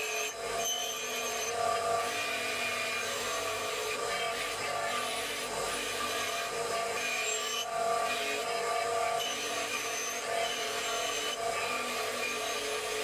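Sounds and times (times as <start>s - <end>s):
bench grinder grinding metal: 0.0s - 13.0s.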